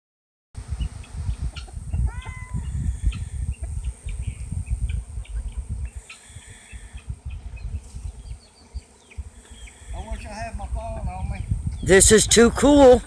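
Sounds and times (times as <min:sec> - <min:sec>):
bee swarm buzzing: 0:00.6 - 0:13.0.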